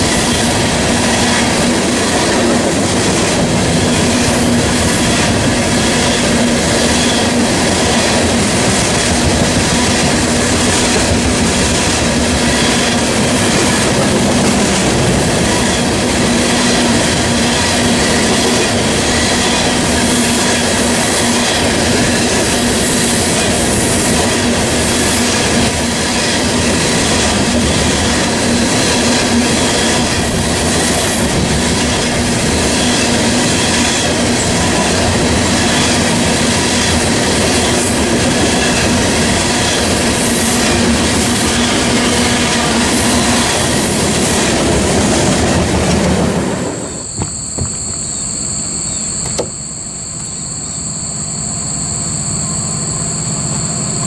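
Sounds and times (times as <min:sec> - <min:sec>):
freight train wheels clickety-clack: 0:00.0 - 0:47.8.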